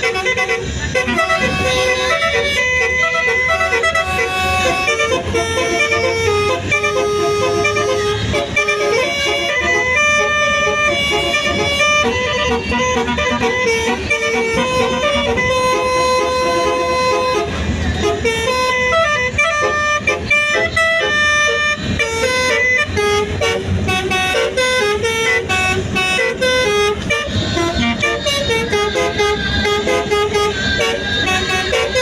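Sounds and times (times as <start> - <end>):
bus horn tooting a melody: 0.0 - 32.0.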